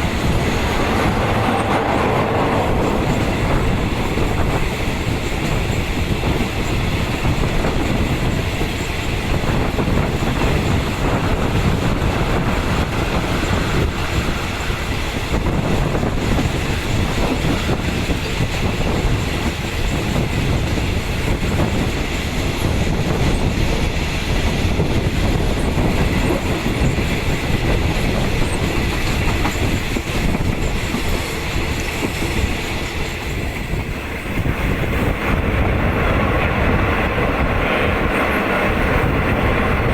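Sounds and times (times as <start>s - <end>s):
track clatter: 0.0s - 39.9s
train wheels rumbling on rail: 0.0s - 39.9s.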